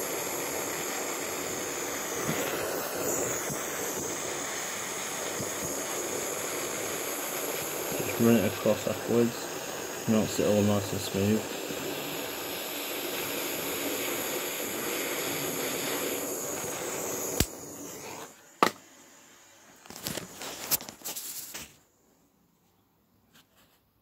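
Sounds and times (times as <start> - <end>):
blowtorch flame hissing: 0.0 - 21.6.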